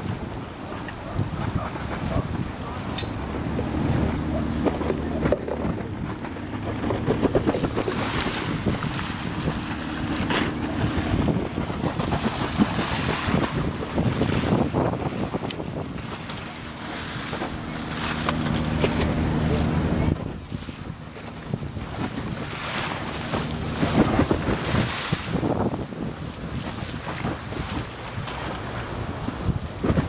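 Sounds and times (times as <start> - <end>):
waves breaking over sandbar: 0.0 - 30.0
wind rumbling on microphone: 0.0 - 30.0.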